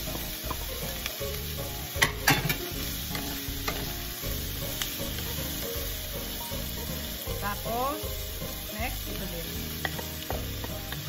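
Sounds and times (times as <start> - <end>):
vegetables sizzling in oil: 0.0 - 11.0
spatula scraping pan: 1.7 - 11.0.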